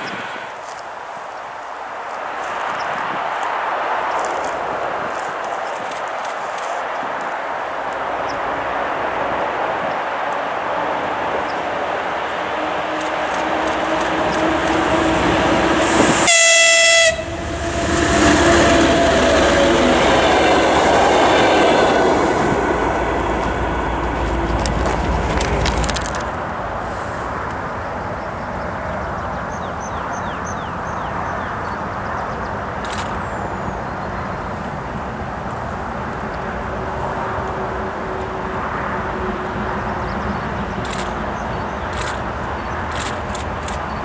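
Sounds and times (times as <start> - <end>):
train passing: 0.0 - 44.0.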